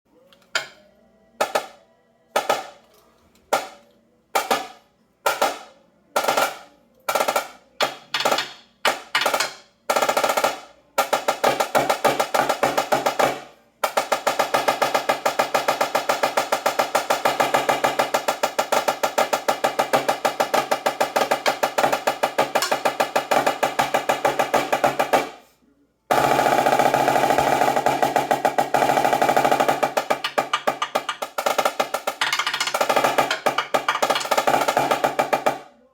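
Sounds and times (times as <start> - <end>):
snare drum strokes and roll: 4.4 - 25.5, 26.1 - 35.6.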